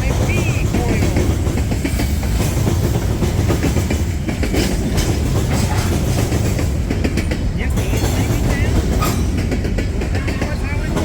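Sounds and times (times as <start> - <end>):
freight train rumbling past: 0.0 - 11.0
wheels clicking over rail joints: 0.0 - 11.0.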